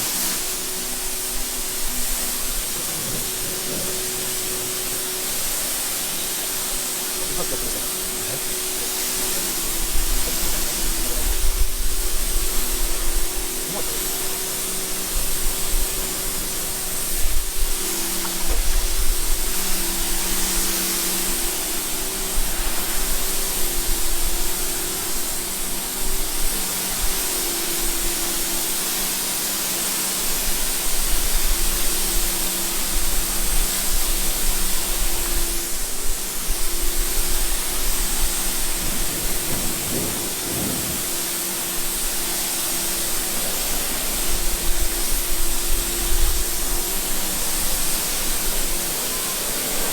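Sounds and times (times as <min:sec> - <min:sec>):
water spraying: 0:00.0 - 0:49.9.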